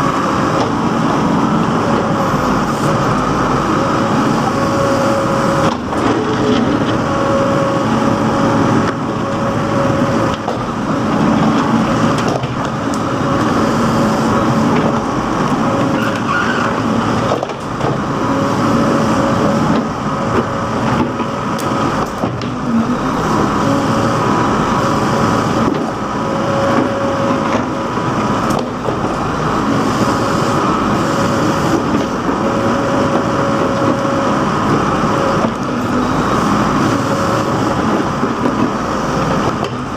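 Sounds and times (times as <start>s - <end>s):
diesel engine running: 0.0s - 39.9s
hydraulic whine: 0.0s - 39.9s.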